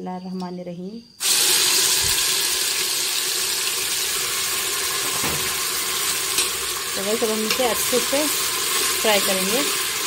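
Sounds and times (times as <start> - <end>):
paste sizzling in hot oil: 1.2 - 10.0.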